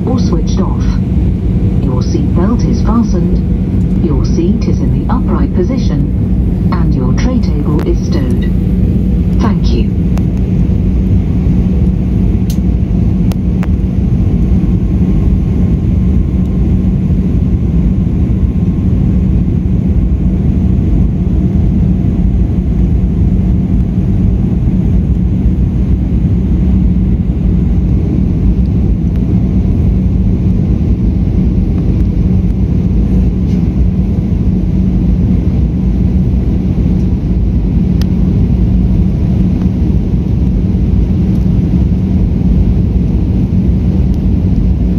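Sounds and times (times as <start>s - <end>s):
airplane cabin engine rumble: 0.0s - 44.9s
constant low hum: 0.0s - 44.9s.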